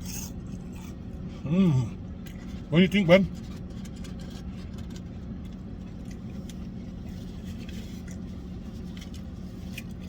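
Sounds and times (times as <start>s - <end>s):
engine idling hum: 0.0s - 10.0s.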